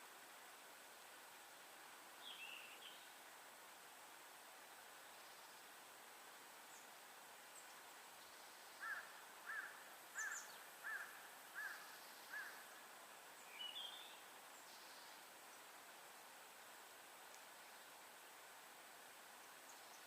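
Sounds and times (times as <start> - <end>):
faint forest hiss: 0.0 - 20.0.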